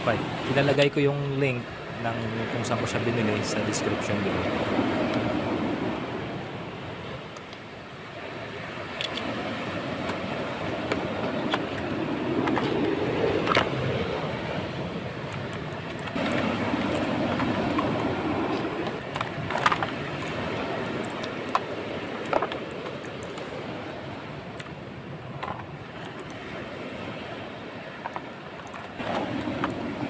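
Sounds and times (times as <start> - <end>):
waves washing on beach: 0.0 - 30.0.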